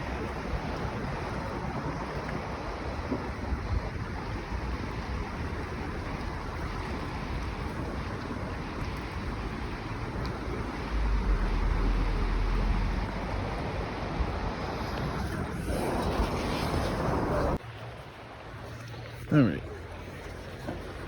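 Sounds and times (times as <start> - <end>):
wind buffeting microphone: 0.0 - 17.6
creek water rushing: 0.0 - 21.0.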